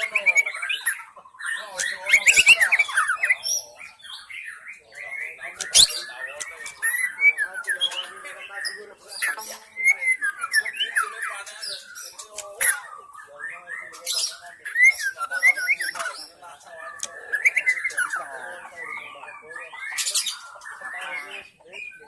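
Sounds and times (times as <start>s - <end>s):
harsh rasping bird notes: 0.0s - 22.0s.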